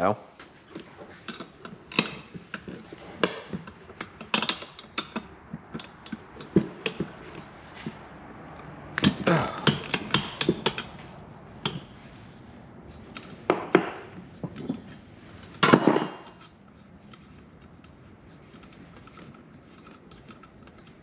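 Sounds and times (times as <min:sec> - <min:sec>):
metallic clatter: 0:00.8 - 0:08.0, 0:08.9 - 0:21.0.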